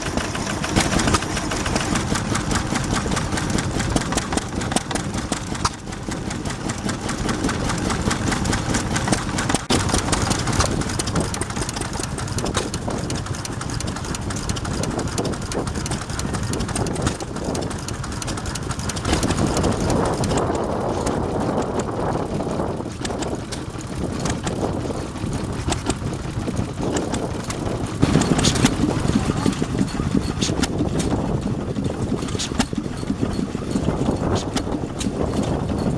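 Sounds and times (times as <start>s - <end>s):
stationary engine running: 0.0s - 35.9s.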